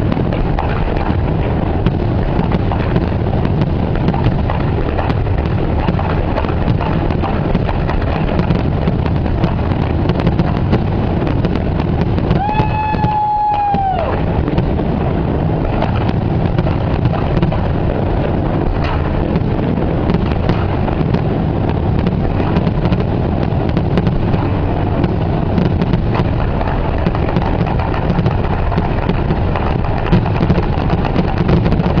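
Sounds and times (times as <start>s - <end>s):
fireworks bursts rumbling: 0.0s - 32.0s
fireworks cracks and crackles: 0.0s - 32.0s.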